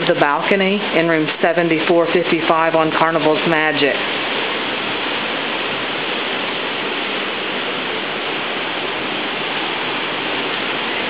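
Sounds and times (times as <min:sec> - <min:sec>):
sea rushing alongside ship: 0:00.2 - 0:11.0.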